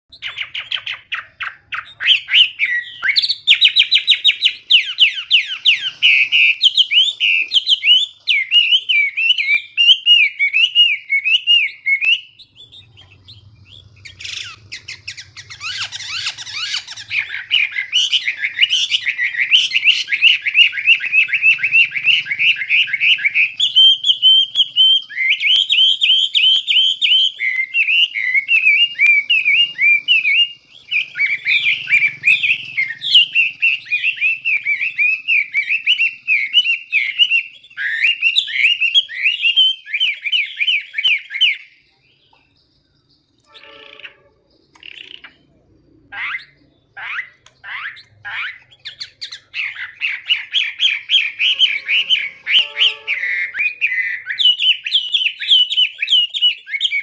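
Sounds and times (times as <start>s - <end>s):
bird singing loudly: 0.0s - 57.0s.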